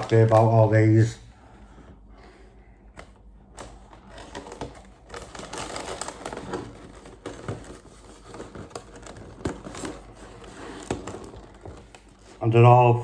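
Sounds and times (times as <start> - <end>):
packaging rustling: 0.0 - 1.1, 3.0 - 12.6.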